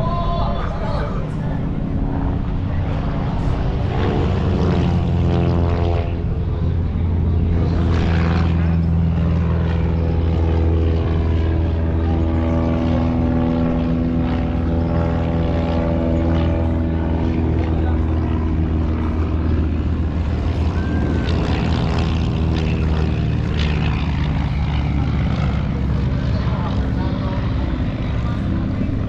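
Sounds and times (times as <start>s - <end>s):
aircraft engine drone: 0.0s - 29.0s.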